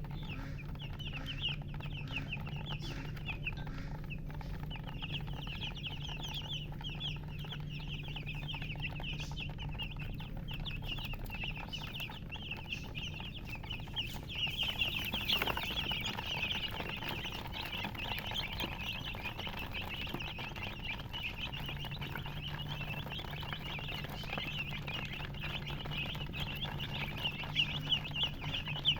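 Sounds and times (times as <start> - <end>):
baby chicks peeping: 0.0 - 28.9
steady low hum: 0.0 - 28.9.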